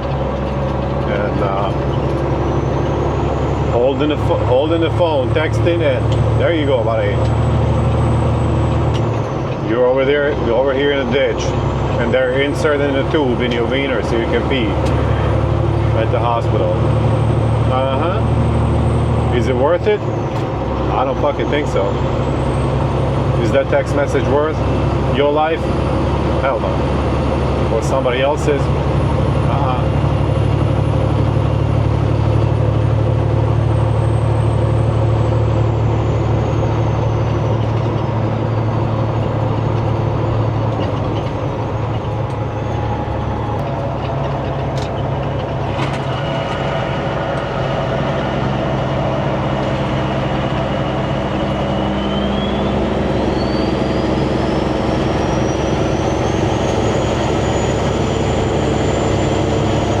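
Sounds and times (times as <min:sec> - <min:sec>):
road noise: 0:00.0 - 1:00.0
truck engine drone: 0:00.0 - 1:00.0.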